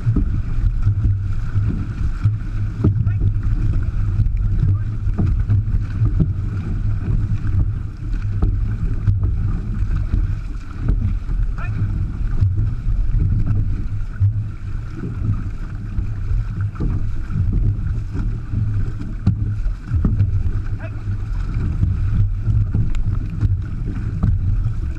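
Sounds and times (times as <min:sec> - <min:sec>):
paddles splashing: 0:00.0 - 0:24.9
water rushing along hull: 0:00.0 - 0:24.9
wind buffeting microphone: 0:00.0 - 0:24.9.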